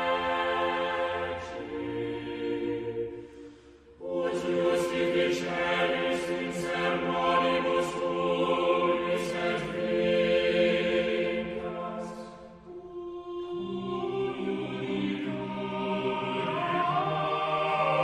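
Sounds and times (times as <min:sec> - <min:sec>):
chant-like choral singing: 0:00.0 - 0:18.0.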